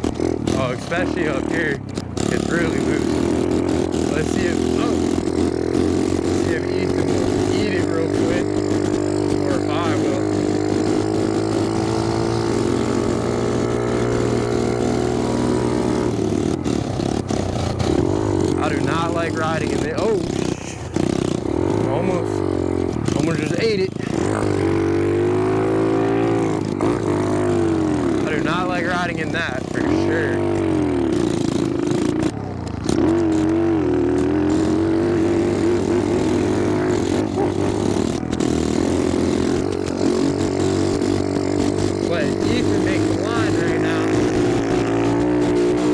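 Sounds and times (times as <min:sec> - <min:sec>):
small motorcycle engine running: 0:00.0 - 0:45.9.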